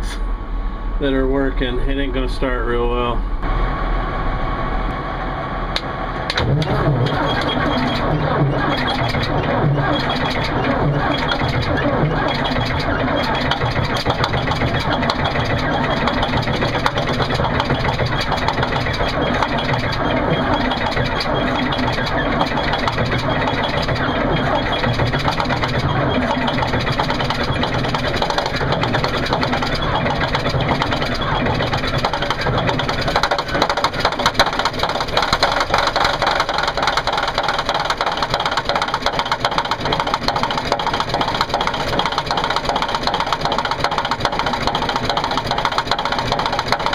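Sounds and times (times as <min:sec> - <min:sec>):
diesel engine cranking: 0:05.8 - 0:46.9.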